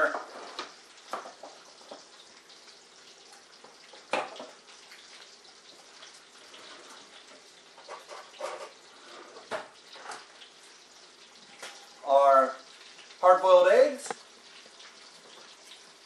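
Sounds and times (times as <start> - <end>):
bacon sizzling in a frying pan: 0.0 - 16.0.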